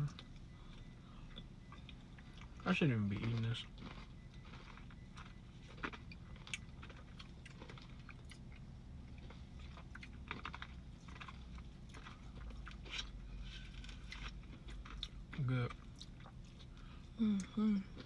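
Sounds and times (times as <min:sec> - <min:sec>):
person chewing and biting: 0:00.1 - 0:17.2.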